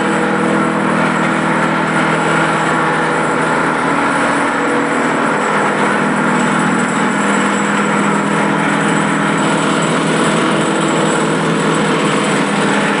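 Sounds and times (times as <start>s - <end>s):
grinding mill whirring: 0.0s - 13.0s.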